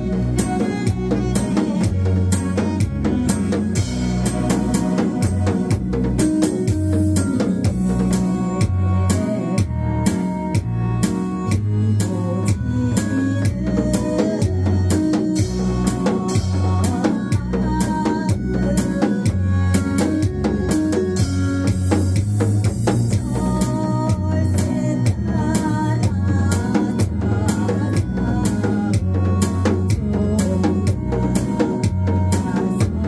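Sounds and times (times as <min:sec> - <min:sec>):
backing track with bass and melody: 0:00.0 - 0:33.0.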